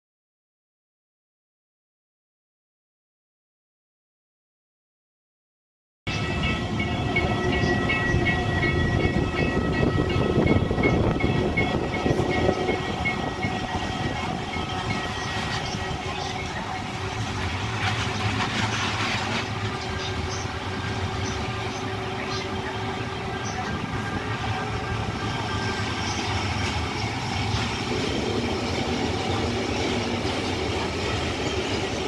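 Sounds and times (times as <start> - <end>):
train wheels rumbling on rail: 6.1 - 32.0.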